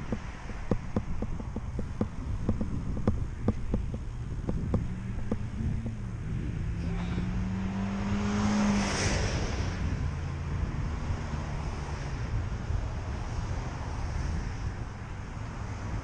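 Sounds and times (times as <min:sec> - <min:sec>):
motor vehicle passing: 0:00.0 - 0:16.0
steady low rumble: 0:00.0 - 0:16.0.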